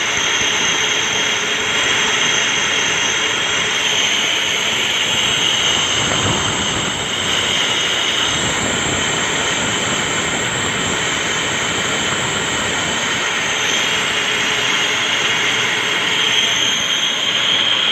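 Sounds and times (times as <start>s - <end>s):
high-pitched cutting whine: 0.0s - 17.9s
metal lathe cutting steel: 0.0s - 17.9s.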